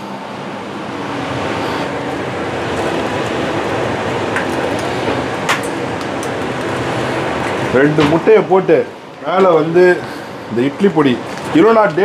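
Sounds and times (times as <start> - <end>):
rushing kitchen noise: 0.0 - 12.0.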